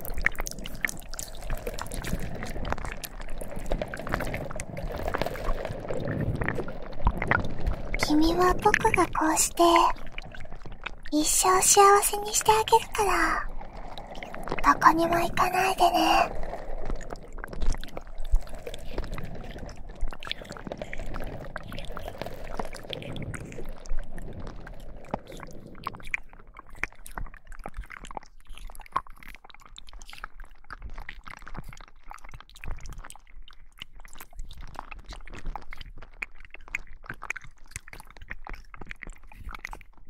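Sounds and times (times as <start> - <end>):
slime squelching and crackling: 0.0 - 40.0.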